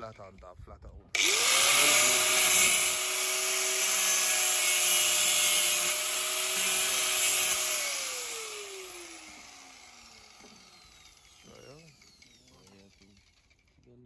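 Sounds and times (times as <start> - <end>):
angle grinder grinding metal: 1.2 - 13.8.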